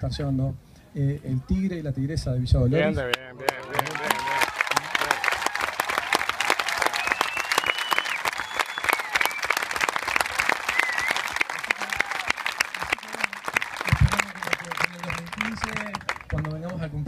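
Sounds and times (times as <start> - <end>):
crowd applauding: 3.1 - 17.0.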